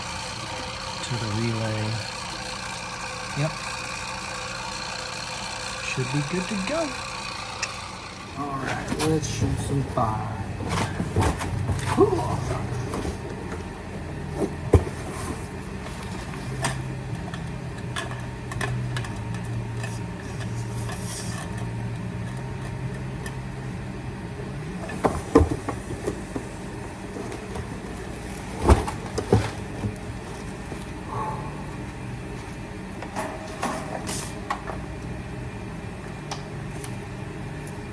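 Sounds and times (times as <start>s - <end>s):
low machine hum: 0.0s - 37.9s.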